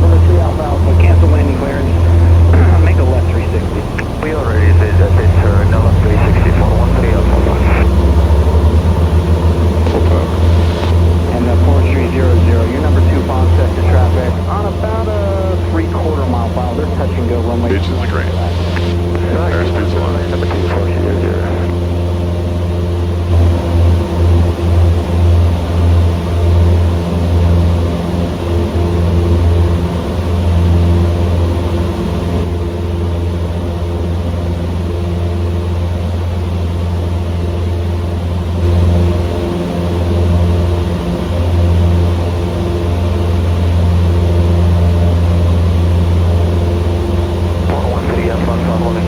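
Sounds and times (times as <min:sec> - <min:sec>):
light aircraft engine droning: 0:00.0 - 0:49.0.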